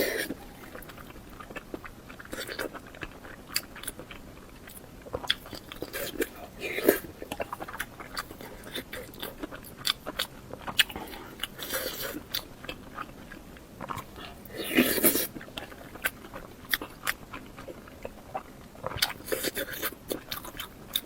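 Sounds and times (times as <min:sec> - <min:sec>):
chewing with wet mouth clicks: 0:00.2 - 0:21.0.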